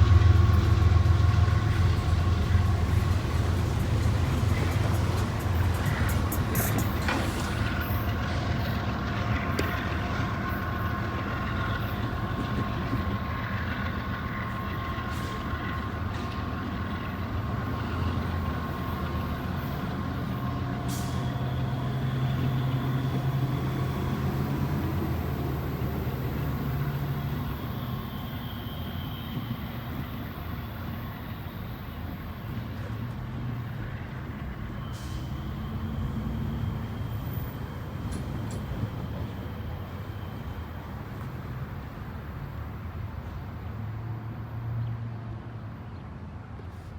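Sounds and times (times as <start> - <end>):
train wheels rumbling on rail: 0.0 - 45.4.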